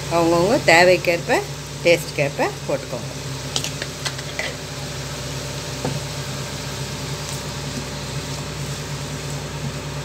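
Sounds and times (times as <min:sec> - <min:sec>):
steady low hum: 0:00.0 - 0:10.0
vegetables sizzling in frying pan: 0:00.0 - 0:10.0.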